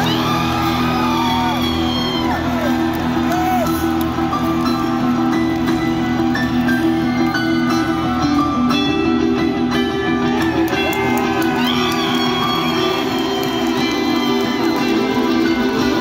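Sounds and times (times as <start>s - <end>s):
live band music led by guitar: 0.0s - 16.0s.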